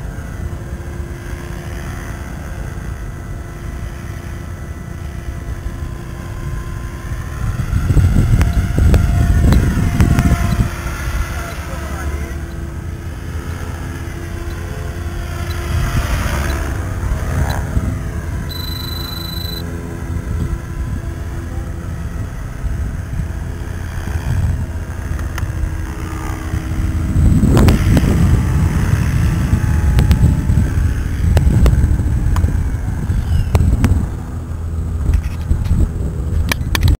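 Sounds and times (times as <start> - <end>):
model helicopter rotor whine: 0.0 - 36.9.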